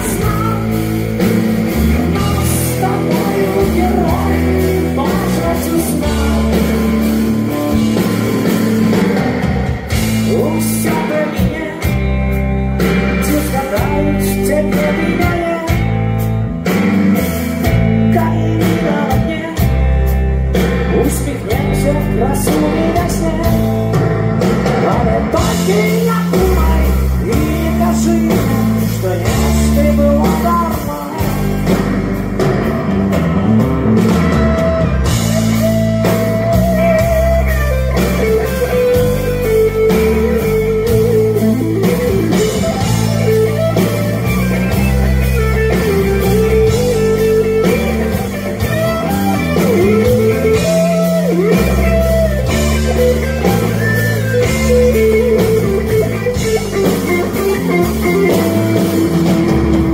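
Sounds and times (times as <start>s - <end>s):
bass: 0.0s - 59.9s
drum kit: 0.0s - 59.9s
electric guitars: 0.0s - 59.9s
held melody line: 0.0s - 59.9s.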